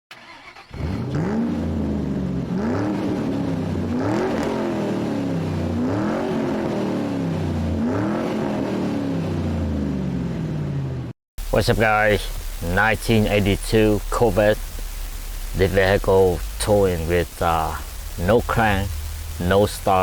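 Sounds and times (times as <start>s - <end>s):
car engine revving: 0.5s - 20.0s.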